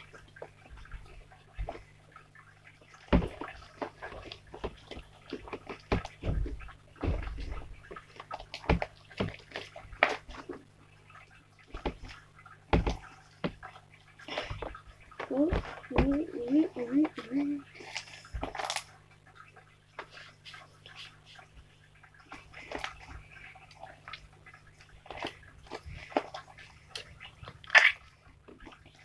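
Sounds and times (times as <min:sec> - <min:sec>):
slime squelching: 0:02.8 - 0:29.0.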